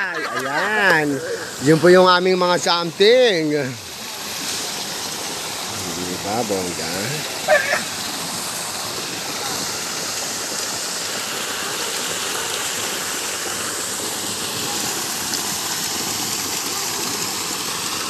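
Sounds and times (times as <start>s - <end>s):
waterfall splashing into pool: 0.0s - 18.0s.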